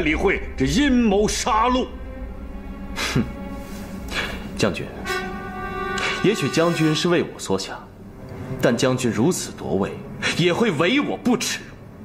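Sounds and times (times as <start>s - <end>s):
dark drama score: 0.0s - 12.0s.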